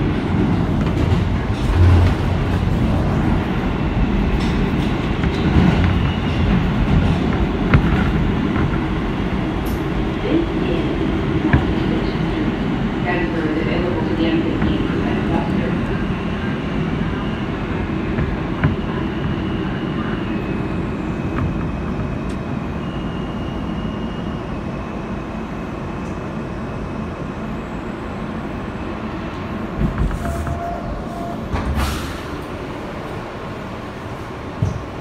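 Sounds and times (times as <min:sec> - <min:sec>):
subway car rumble: 0:00.0 - 0:35.0.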